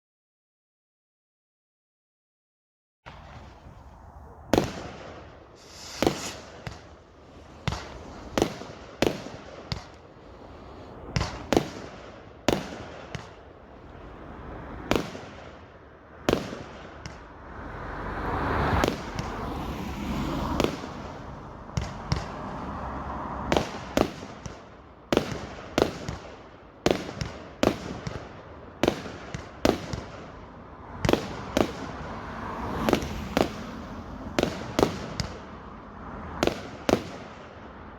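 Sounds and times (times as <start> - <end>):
fireworks rushing crackle: 3.1 - 17.3, 18.4 - 37.6
fireworks bangs: 3.1 - 37.8.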